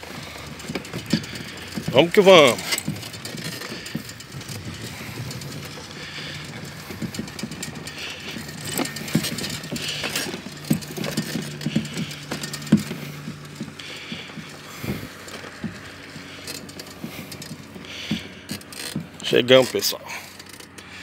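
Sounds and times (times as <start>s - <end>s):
bicycle frame rattling: 0.0s - 21.0s
steady low hum: 0.0s - 21.0s.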